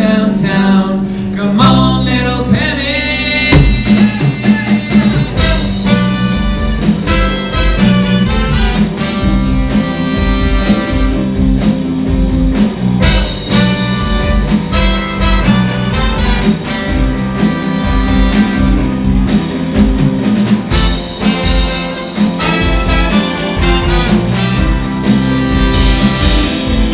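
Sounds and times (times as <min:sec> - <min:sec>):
live band playing: 0:00.0 - 0:26.9
steady drum beat: 0:03.4 - 0:26.9.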